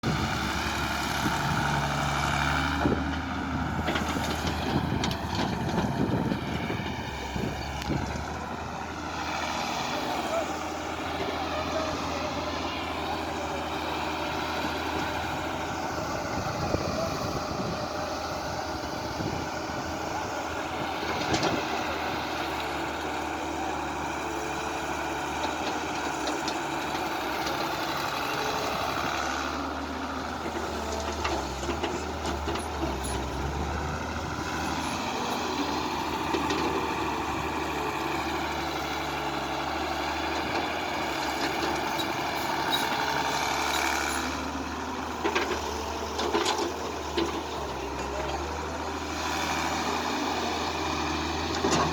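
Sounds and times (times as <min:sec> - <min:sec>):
diesel engines of machines running: 0:00.0 - 0:51.9.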